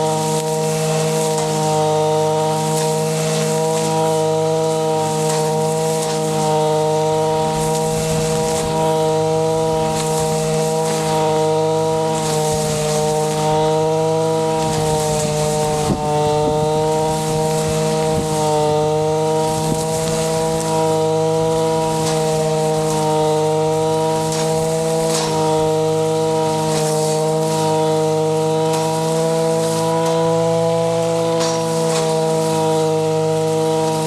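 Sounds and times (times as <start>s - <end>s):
blade ticks cutting grass: 0.0s - 34.0s
brush cutter engine running: 0.0s - 34.0s.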